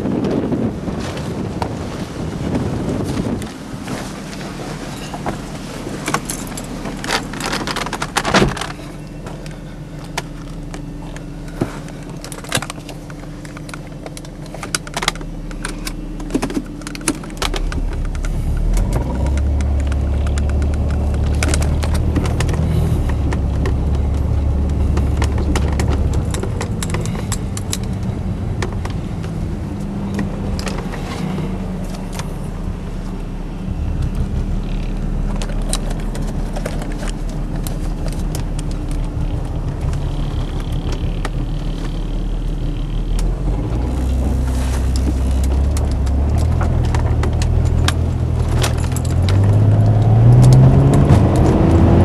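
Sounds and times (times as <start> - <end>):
car engine running: 0.0 - 52.0
light clicks and rattles: 3.3 - 52.0.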